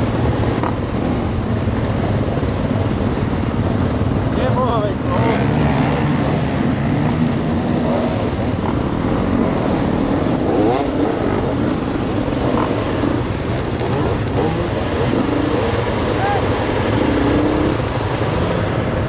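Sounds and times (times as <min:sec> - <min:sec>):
motorcycle engine revving: 0:00.0 - 0:19.0
motorcycle engines running: 0:00.0 - 0:19.0.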